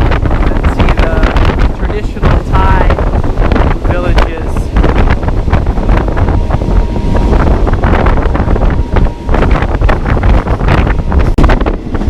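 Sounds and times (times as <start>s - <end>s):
train rumble: 0.0s - 12.0s
wind buffeting microphone: 0.0s - 12.0s.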